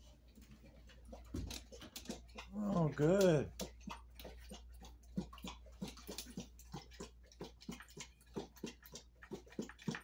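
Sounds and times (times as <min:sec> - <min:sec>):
dog lapping water: 0:00.0 - 0:10.0.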